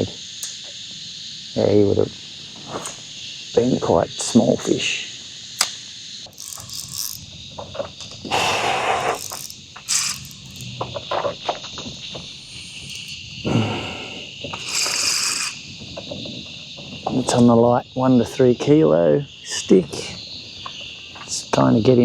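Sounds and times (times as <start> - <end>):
cicadas shrilling: 0.0 - 22.0.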